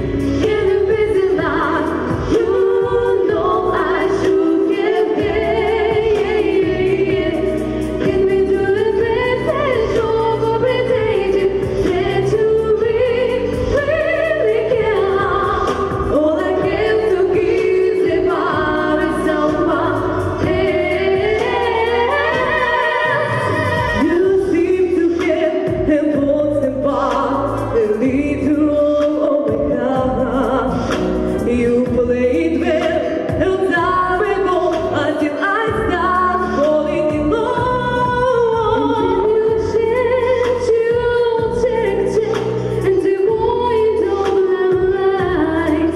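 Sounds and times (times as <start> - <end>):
girls singing a duet: 0.0 - 45.9
musical accompaniment with bass: 0.0 - 45.9.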